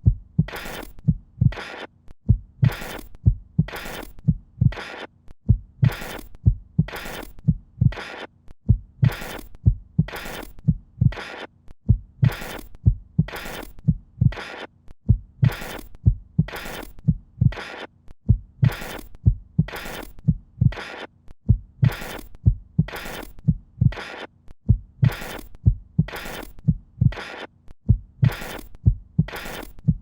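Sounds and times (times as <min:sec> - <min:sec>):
deep heartbeat-like thuds: 0:00.0 - 0:01.6, 0:02.2 - 0:04.8, 0:05.4 - 0:08.0, 0:08.6 - 0:11.2, 0:11.8 - 0:14.4, 0:15.0 - 0:17.6, 0:18.2 - 0:20.8, 0:21.4 - 0:24.0, 0:24.6 - 0:27.2, 0:27.8 - 0:30.0.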